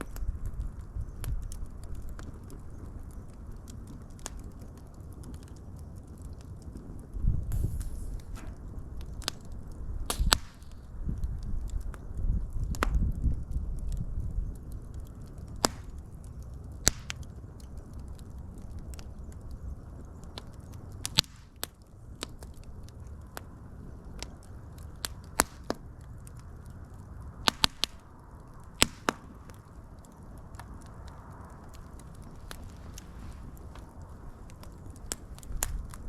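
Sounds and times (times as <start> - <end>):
fire pops and snaps: 0.0 - 36.0
low rumble of burning: 0.0 - 36.0.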